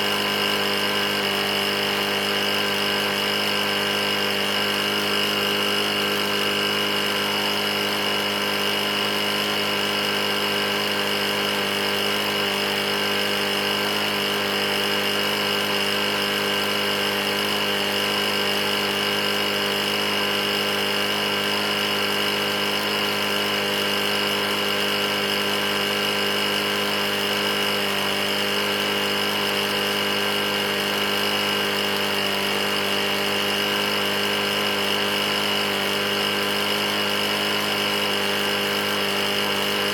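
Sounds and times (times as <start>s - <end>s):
lawn mower engine knocking: 0.0s - 39.9s.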